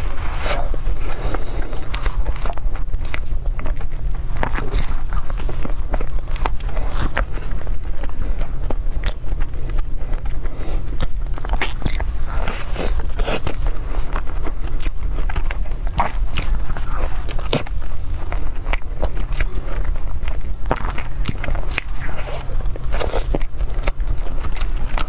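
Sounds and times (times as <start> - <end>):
close biting and chewing: 0.0 - 25.0
low hum: 0.0 - 25.0.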